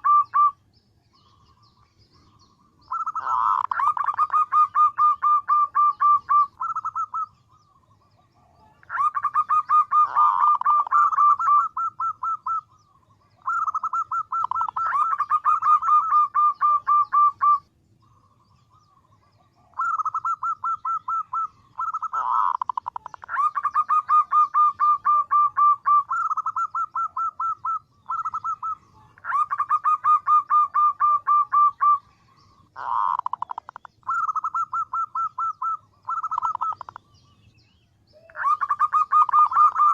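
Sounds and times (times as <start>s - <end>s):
dove cooing: 0.0s - 37.2s, 38.1s - 39.9s.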